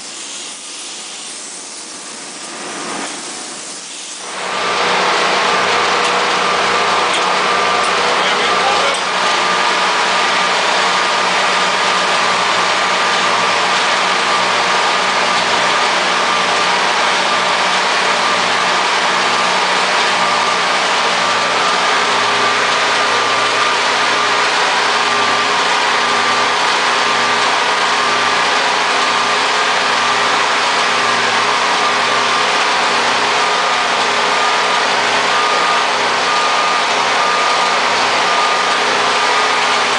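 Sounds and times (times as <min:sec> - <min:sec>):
hydraulic pump machinery whine: 0:00.0 - 0:39.9.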